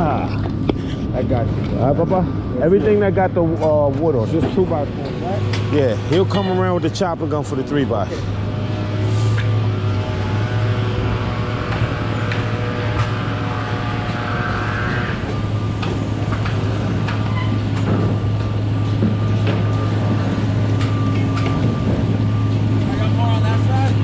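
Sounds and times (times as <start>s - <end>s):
construction machinery drone: 0.0s - 24.0s.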